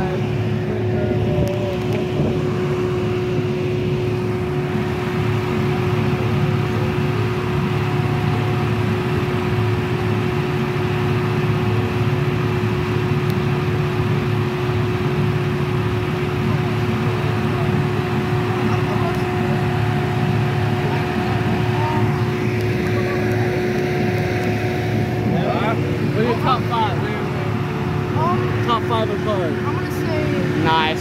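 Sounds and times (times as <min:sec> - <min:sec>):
steady mechanical drone: 0:00.0 - 0:31.0.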